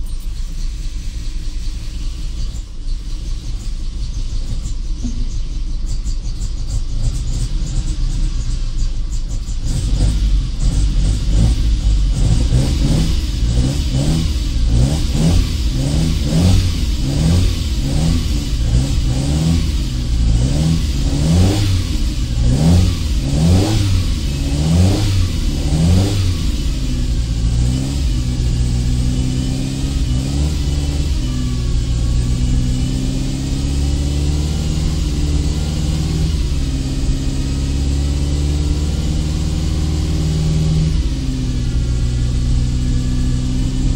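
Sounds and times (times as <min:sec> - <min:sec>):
car engine revving and idling: 0:00.0 - 0:43.9.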